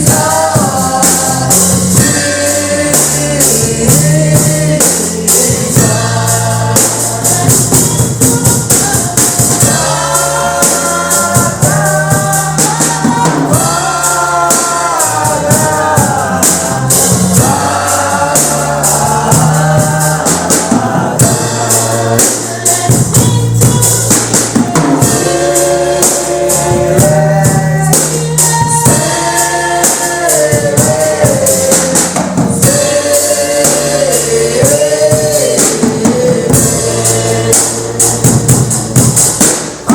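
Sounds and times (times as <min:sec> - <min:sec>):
band with drums: 0:00.0 - 0:39.9
choir singing gospel: 0:00.0 - 0:39.9.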